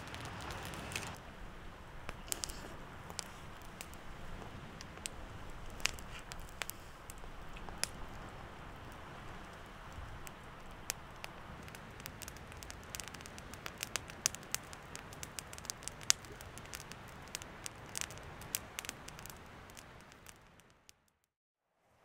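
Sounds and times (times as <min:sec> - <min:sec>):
crackles and pops: 0:00.0 - 0:01.2, 0:02.0 - 0:21.3.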